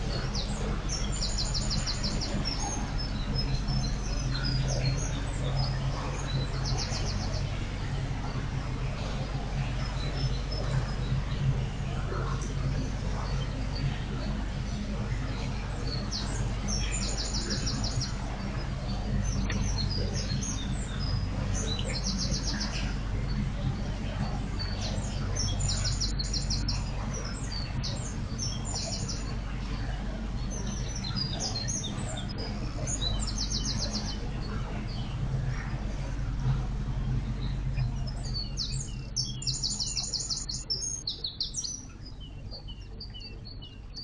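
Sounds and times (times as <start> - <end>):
boat propeller hum and water wash: 0.0 - 44.0
songbirds trilling: 0.0 - 44.0.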